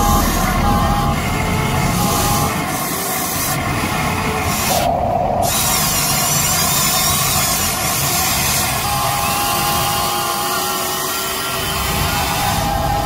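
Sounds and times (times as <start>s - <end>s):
small electric motors whirring: 0.0s - 13.0s.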